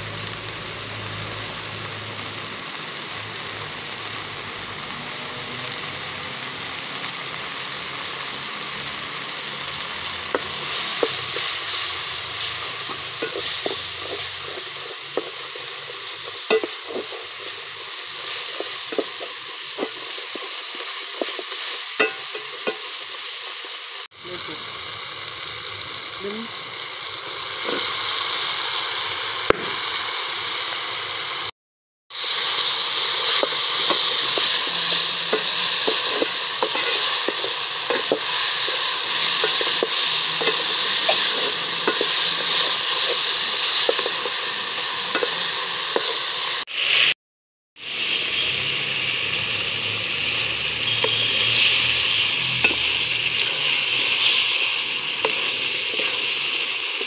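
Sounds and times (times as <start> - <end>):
chicken sizzling in a pot: 0.0 - 47.2, 47.8 - 57.0.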